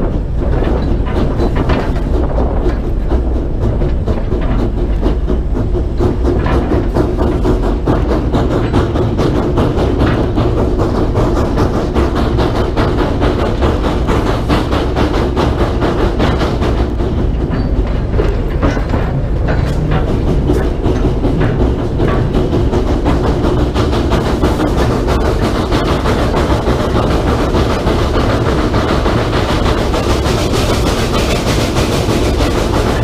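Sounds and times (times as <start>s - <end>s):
steam locomotive chuffing: 0.0s - 33.0s
wheels rumbling on rails: 0.0s - 33.0s.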